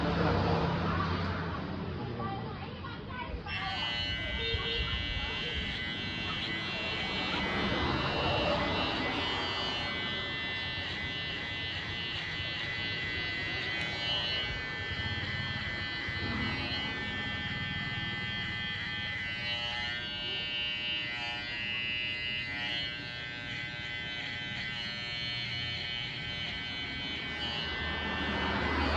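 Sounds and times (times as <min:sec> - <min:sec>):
electric hair clippers buzzing: 0:03.5 - 0:28.9.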